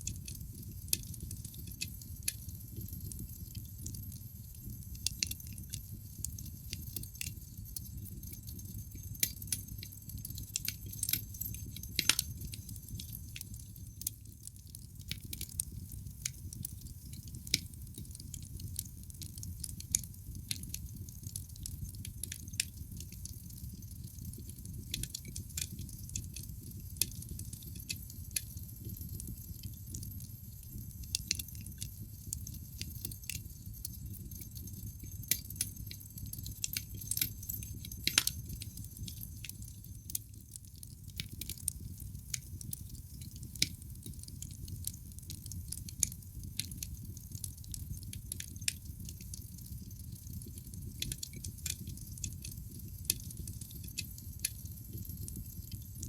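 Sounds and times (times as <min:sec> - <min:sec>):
fireplace fire crackling: 0:00.0 - 0:56.0.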